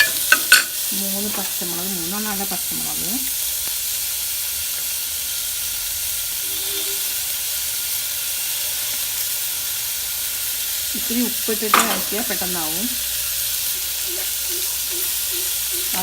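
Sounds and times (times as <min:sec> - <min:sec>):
onions frying sizzling: 0:00.0 - 0:16.0.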